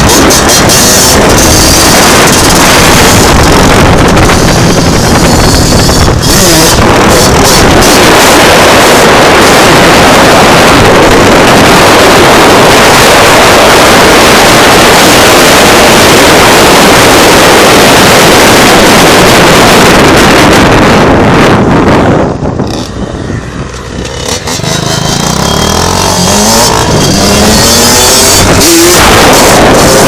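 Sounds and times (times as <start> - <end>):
dirt bike engine running hard: 0.0 - 30.0
wind noise: 0.0 - 30.0.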